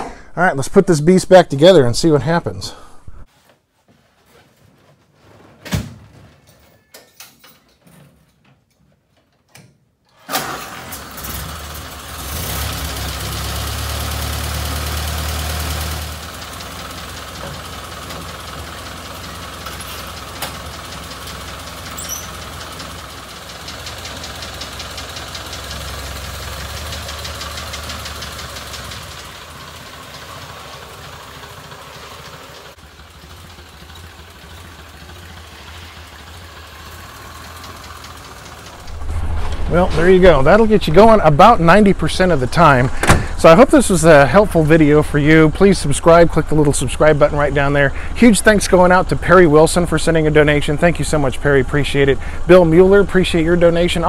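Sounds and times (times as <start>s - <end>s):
car engine starting and idling: 10.2s - 54.0s.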